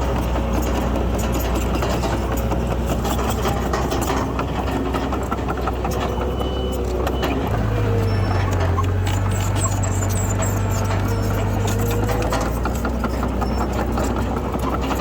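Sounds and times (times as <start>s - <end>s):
light clanks and knocks: 0.0s - 7.5s, 8.2s - 15.0s
heavy diesel engine hum: 0.0s - 15.0s.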